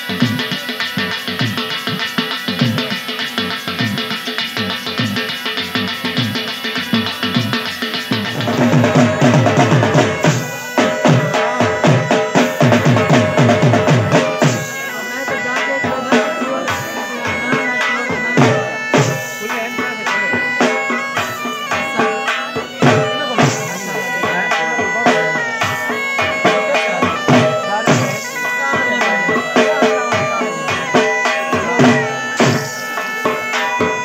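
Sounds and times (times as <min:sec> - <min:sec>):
heavy drumming: 0:00.0 - 0:34.0
reedy wind instrument melody: 0:00.0 - 0:34.0.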